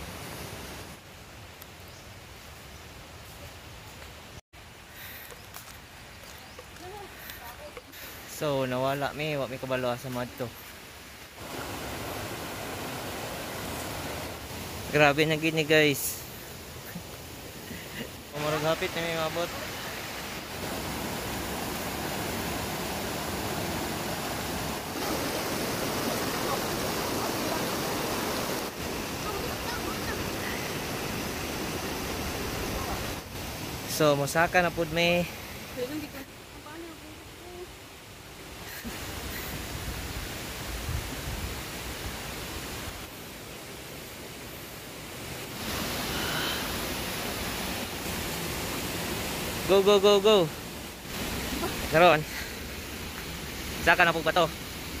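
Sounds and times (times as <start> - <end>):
river rushing over rocks: 7.9 - 37.0, 38.0 - 55.0.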